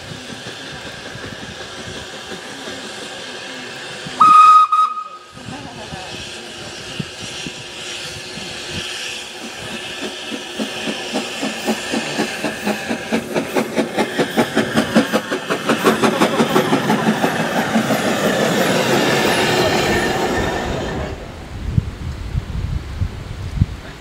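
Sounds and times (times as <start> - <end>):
steam hissing: 0.0 - 21.4
steam locomotive chuffing: 0.0 - 21.4
wheel noise on track: 0.0 - 24.0.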